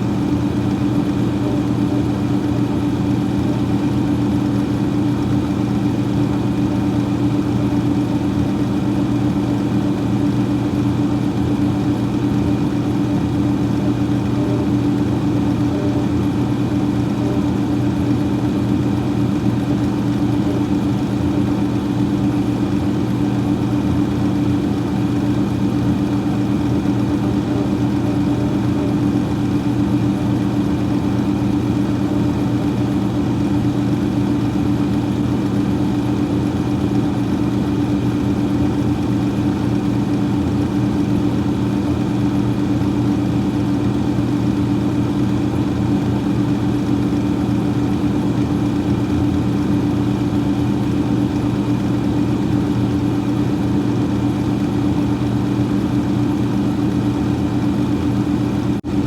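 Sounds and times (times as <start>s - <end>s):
freezer fan humming: 0.0s - 59.0s.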